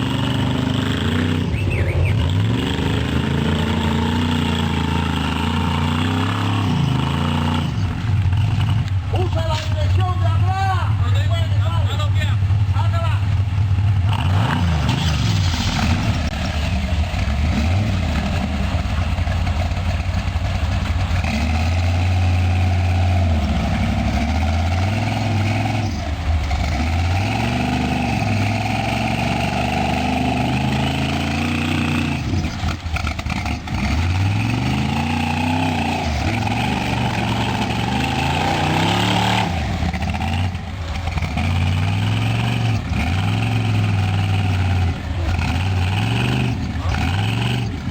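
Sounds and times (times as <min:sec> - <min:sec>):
engine revving: 0:00.0 - 0:47.9.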